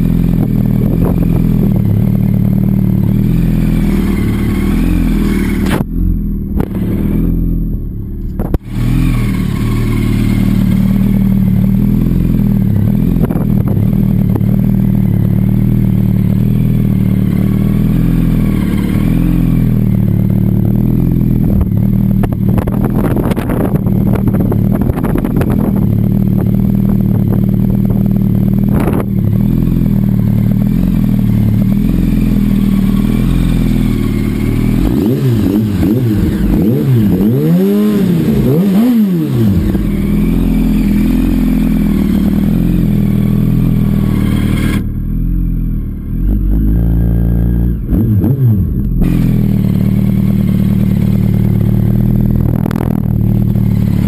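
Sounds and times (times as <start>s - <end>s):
engine throttle blips: 0.0s - 54.0s
motorcycle engine idling: 0.0s - 54.0s.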